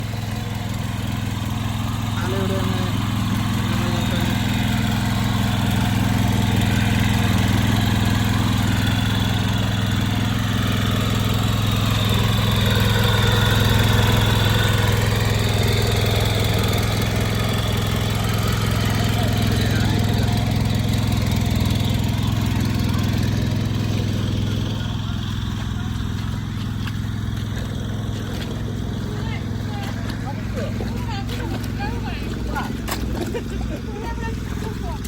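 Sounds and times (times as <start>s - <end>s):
small engine running: 0.0s - 35.0s.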